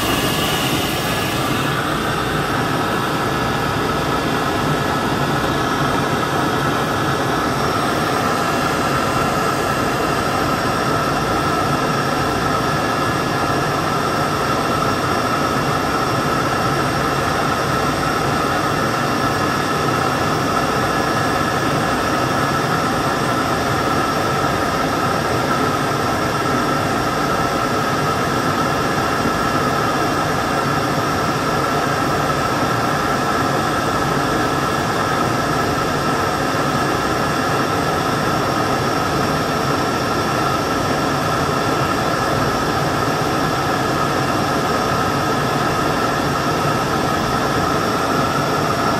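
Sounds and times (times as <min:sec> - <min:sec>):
helicopter turbine engines: 0:00.0 - 0:48.9.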